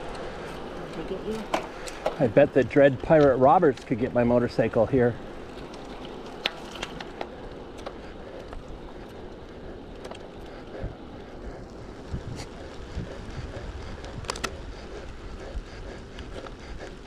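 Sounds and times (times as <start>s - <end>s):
bike tyres on asphalt: 0.0s - 17.0s
wind buffeting microphone: 0.0s - 17.0s.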